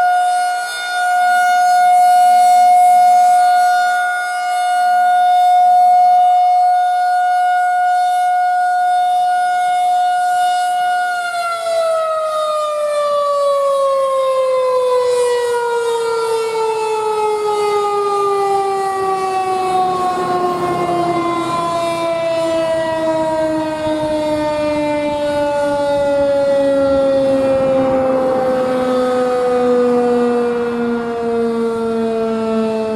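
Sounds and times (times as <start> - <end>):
warning siren winding down: 0.0 - 32.9.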